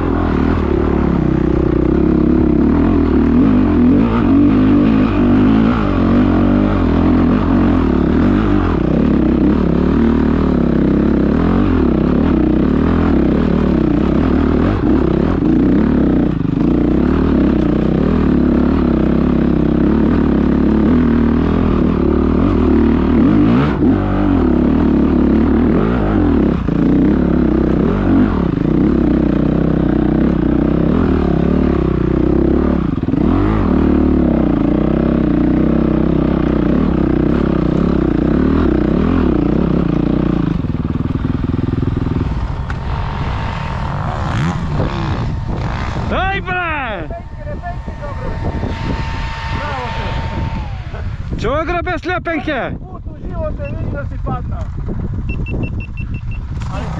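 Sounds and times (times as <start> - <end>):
motocross bike engine revving: 0.0 - 52.8, 53.5 - 56.9.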